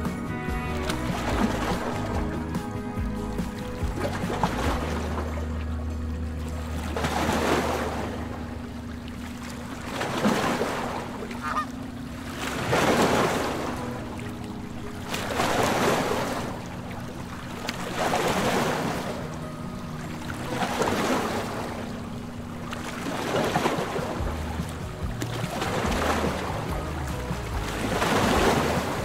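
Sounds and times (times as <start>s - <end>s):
water splashing along a hull: 0.0s - 29.0s.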